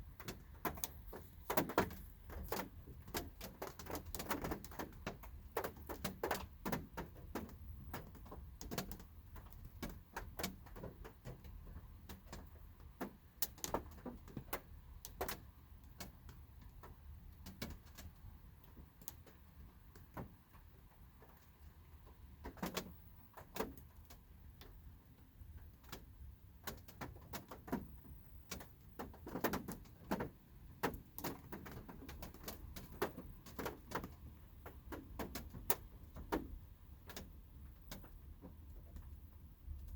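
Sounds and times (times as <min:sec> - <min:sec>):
raindrops tapping on car: 0:00.1 - 0:39.2.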